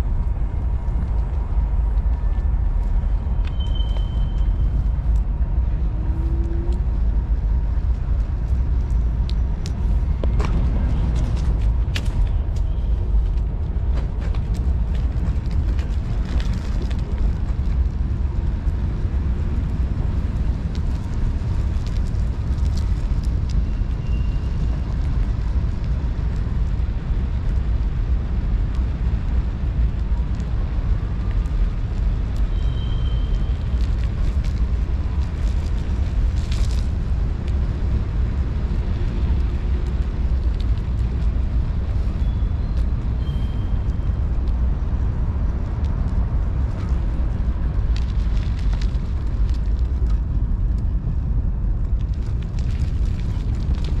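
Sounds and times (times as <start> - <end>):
tyres rolling on pavement: 0.0 - 54.0
wind buffeting microphone: 0.0 - 54.0
light clicks from bumps: 7.7 - 50.9.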